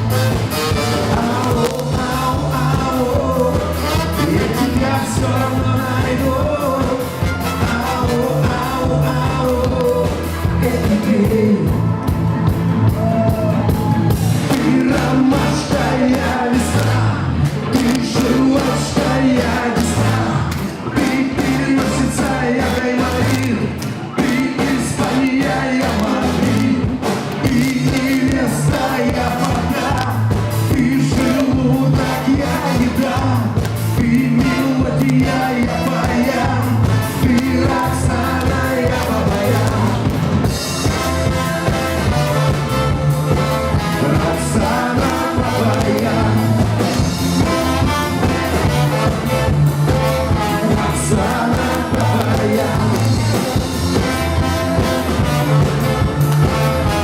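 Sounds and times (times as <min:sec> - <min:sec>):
person singing: 0:00.0 - 0:12.0, 0:12.9 - 0:57.0
live pop-rock band playing: 0:00.0 - 0:57.0.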